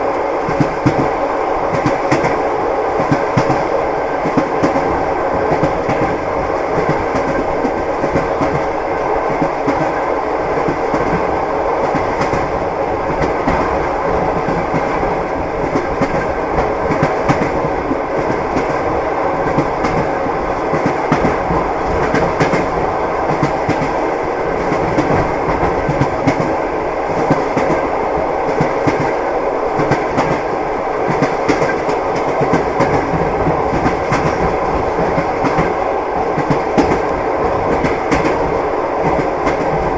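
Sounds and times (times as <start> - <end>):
train rumble: 0.0 - 39.9
train wheels clicking on rails: 0.0 - 39.9.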